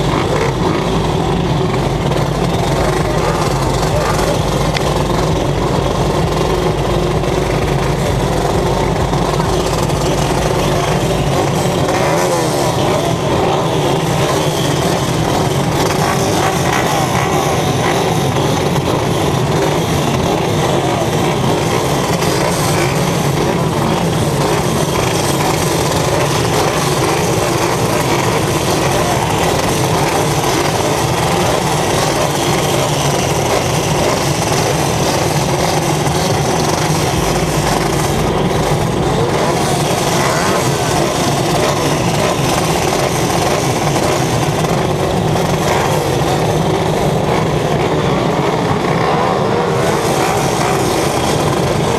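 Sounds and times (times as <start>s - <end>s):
heavy wind noise: 0.0s - 51.9s
racing vehicle engine running: 0.0s - 51.9s
road noise: 0.0s - 51.9s.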